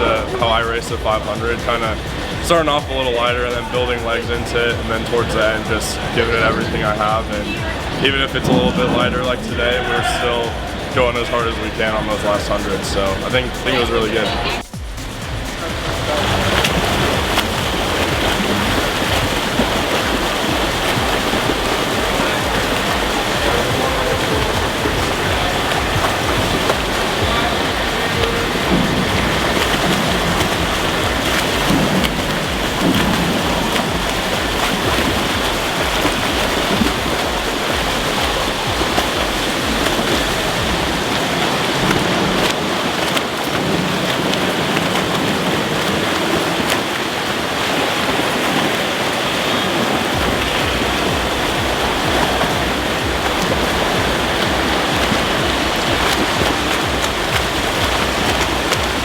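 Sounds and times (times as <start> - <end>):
swimmers splashing in pool: 0.0 - 59.0.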